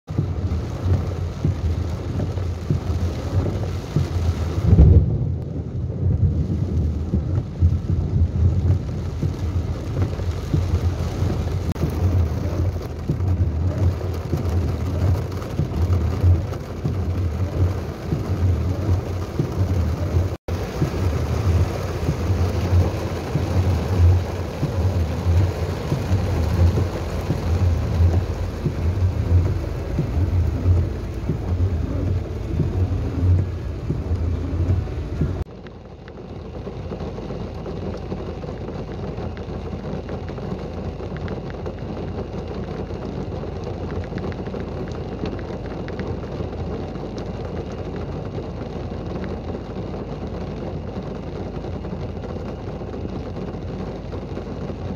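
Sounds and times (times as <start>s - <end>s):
heavy rain pouring: 0.1s - 54.9s
low rumbling pulses: 0.1s - 54.9s.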